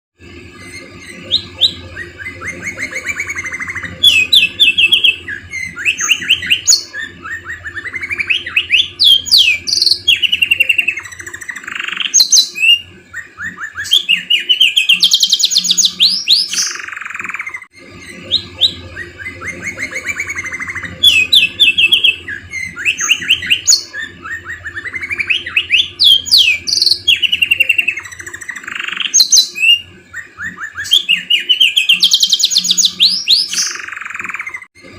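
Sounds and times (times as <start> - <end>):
canary singing: 0.2 - 34.7.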